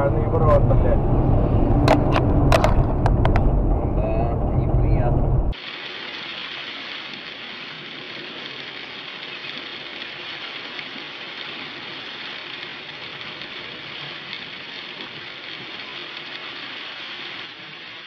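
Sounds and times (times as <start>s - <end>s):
road and tyre noise: 0.0s - 18.0s.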